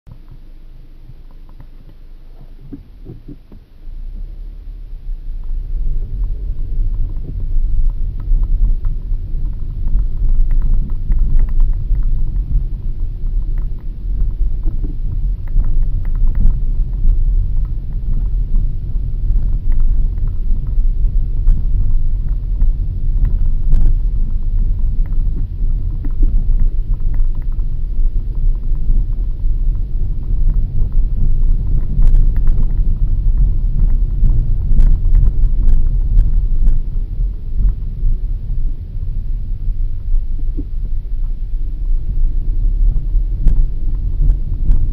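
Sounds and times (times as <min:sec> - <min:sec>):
car engine and road noise: 0:00.1 - 0:44.9.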